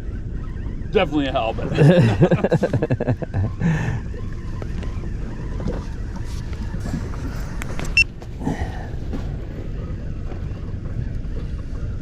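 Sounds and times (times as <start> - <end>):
boat low rumble: 0.0 - 12.0.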